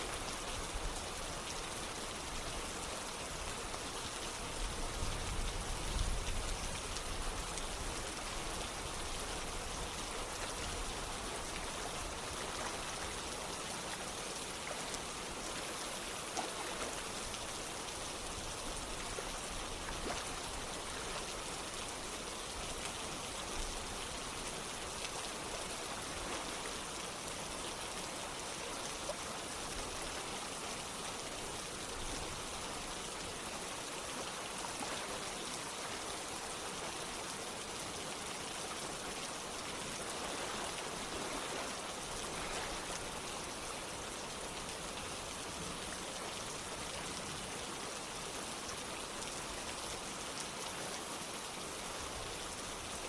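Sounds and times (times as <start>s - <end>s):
rain falling: 0.0s - 53.0s
running water: 0.0s - 53.0s.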